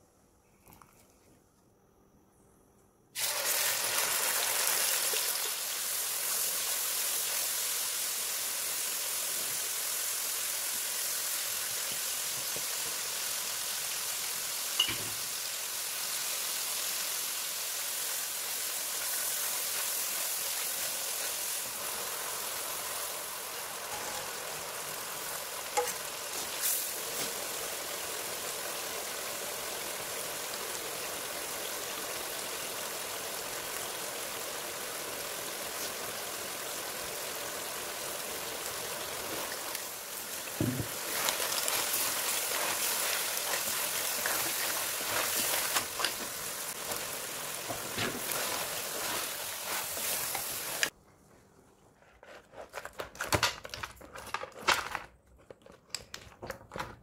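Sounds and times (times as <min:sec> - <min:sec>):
sauce sizzling in hot oil: 0:03.2 - 0:50.9.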